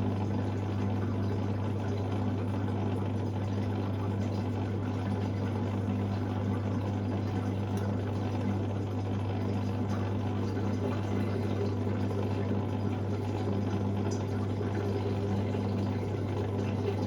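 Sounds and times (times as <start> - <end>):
washing machine pump humming: 0.0 - 17.0
water moving through pump: 0.0 - 17.0.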